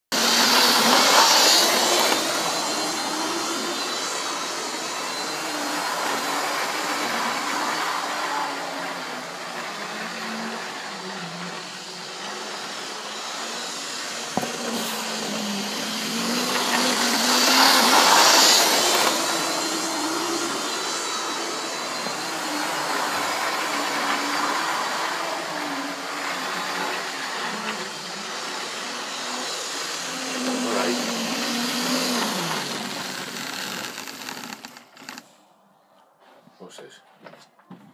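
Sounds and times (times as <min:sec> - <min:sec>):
model train motor whine: 0:00.2 - 0:35.4.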